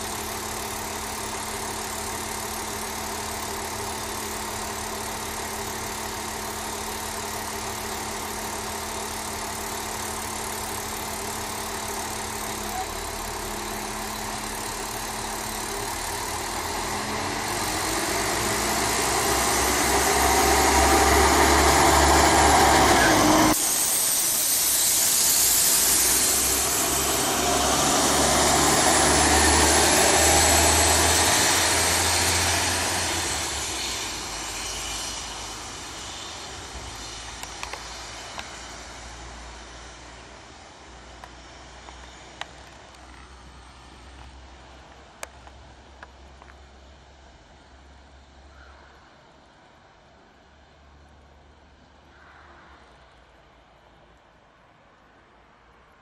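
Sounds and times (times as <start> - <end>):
diesel railbus engine: 0.0 - 56.0.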